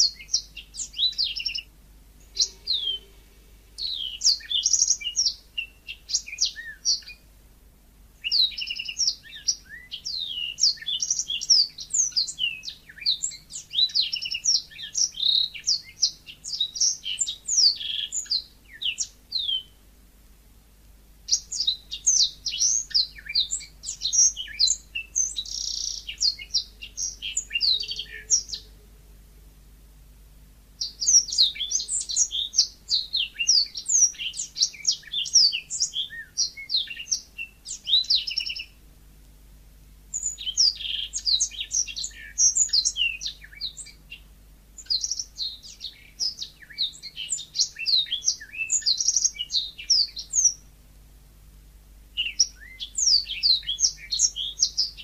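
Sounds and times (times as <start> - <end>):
canary twittering song: 0.0 - 7.2, 8.2 - 19.8, 21.3 - 28.8, 30.8 - 38.8, 40.1 - 44.2, 44.8 - 50.7, 52.2 - 55.0.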